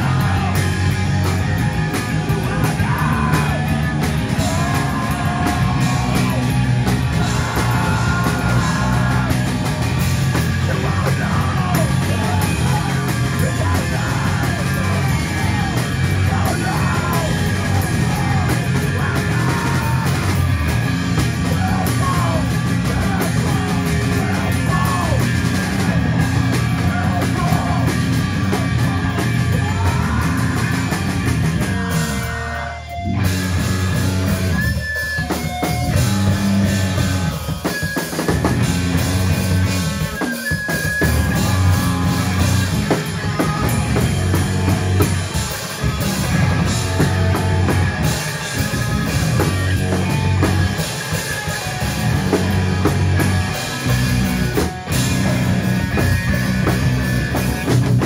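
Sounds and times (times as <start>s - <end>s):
rock band playing loud: 0.0s - 58.0s.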